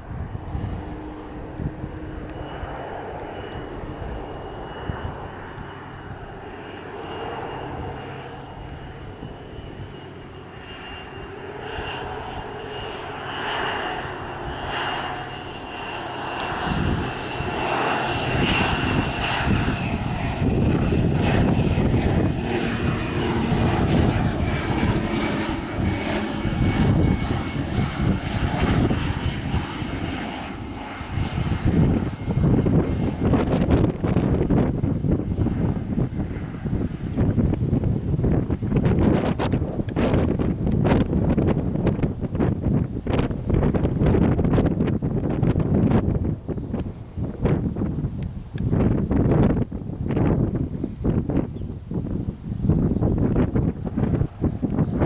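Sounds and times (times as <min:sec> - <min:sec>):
airplane engines whining: 0:00.0 - 0:55.0
wind rumble on microphone: 0:00.0 - 0:55.0.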